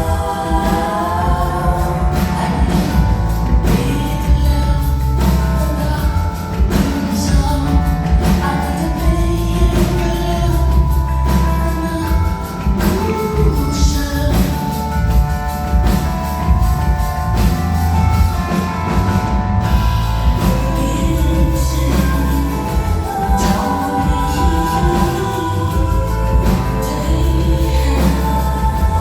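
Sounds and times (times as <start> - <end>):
lead vocal singing: 0.0 - 16.4, 19.6 - 29.0
live band music: 0.0 - 29.0.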